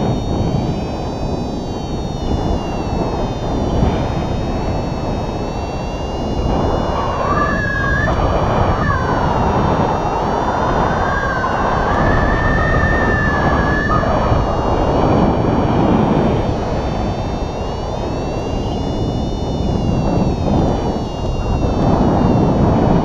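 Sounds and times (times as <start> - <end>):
thin wavering whistle: 0.0 - 23.0
wind buffeting a microphone: 0.0 - 23.0.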